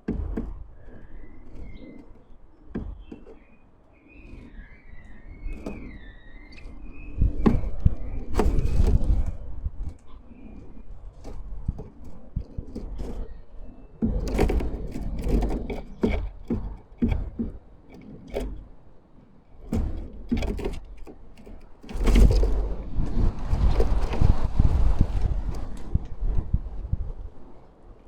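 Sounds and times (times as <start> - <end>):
irregular knocks and taps: 0.0 - 3.6, 5.5 - 13.3, 14.0 - 18.8, 19.5 - 26.2
wind gusting on microphone: 0.0 - 28.0.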